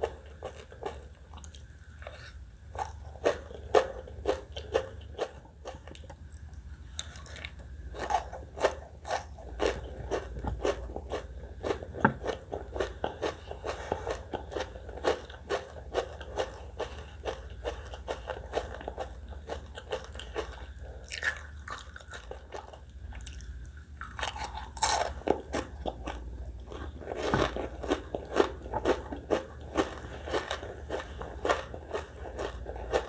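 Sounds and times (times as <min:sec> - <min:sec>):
crunchy chewing and biting: 0:00.0 - 0:33.0.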